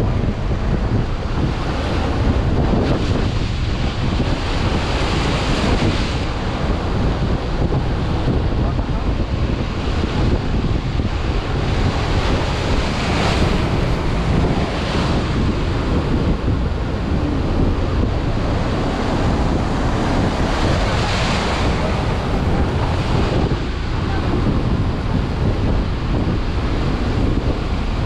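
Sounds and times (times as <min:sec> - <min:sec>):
hissing water surges: 0:00.0 - 0:28.0
surf breaking: 0:00.0 - 0:28.0
water foaming along boat hull: 0:00.0 - 0:28.0
wind rumbling on microphone: 0:00.0 - 0:28.0.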